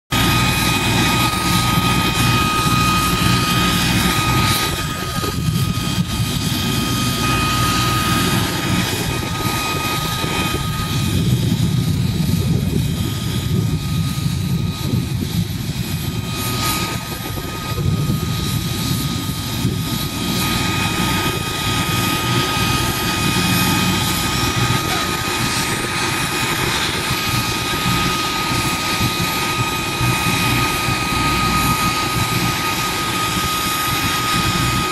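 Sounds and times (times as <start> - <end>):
helicopter engine whine: 0.1 - 34.9
helicopter rotor noise: 0.1 - 34.9.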